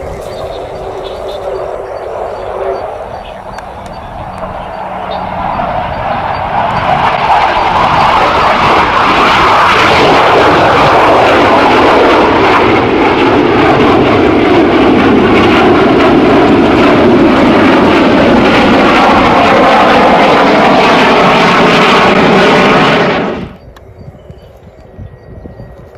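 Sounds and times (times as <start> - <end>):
jet roar passing overhead: 0.0 - 25.9.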